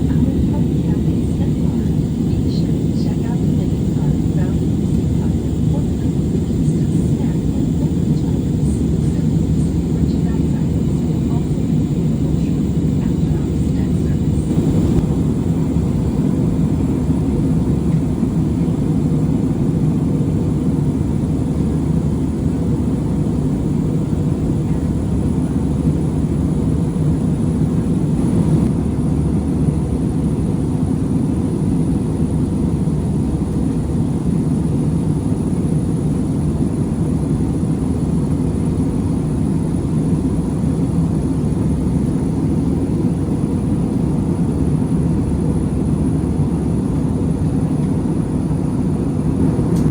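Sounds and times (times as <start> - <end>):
airliner cabin drone: 0.0 - 49.9.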